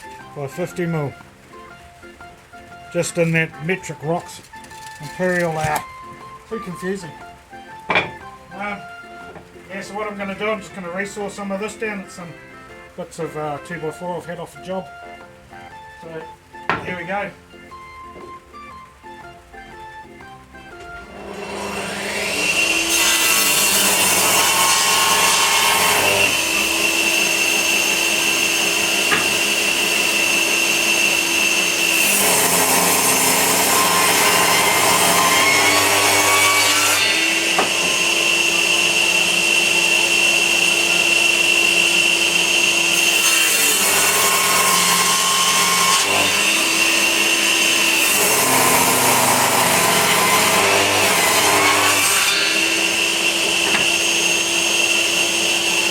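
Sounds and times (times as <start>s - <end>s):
power saw cutting wood: 2.9s - 12.4s, 15.6s - 17.3s, 20.7s - 55.9s.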